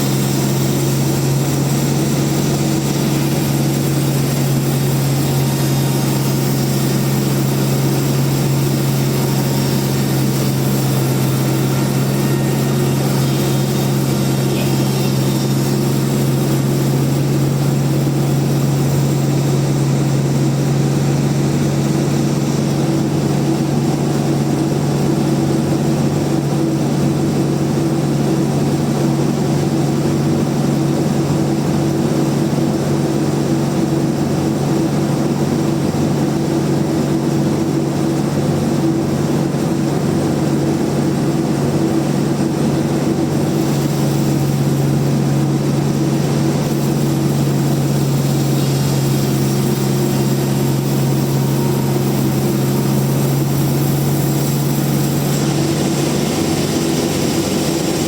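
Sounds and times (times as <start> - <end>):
band sawmill humming: 0.0 - 58.0.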